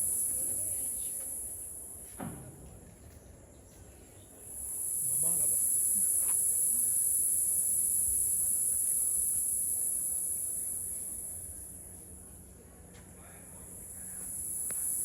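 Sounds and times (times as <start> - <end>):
insects buzzing: 0.0 - 3.3, 3.9 - 15.0.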